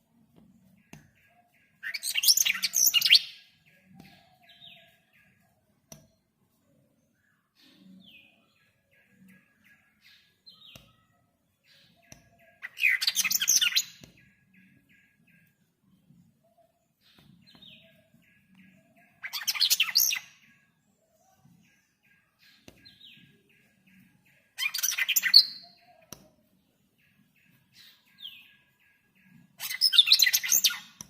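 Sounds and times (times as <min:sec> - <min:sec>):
small bird chirping: 0:00.5 - 0:31.0.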